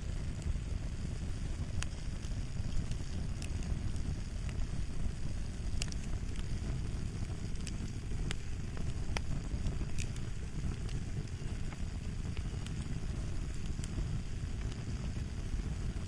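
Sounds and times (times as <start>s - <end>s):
fire crackling: 0.0s - 16.0s
sharp pops and snaps: 0.0s - 16.0s.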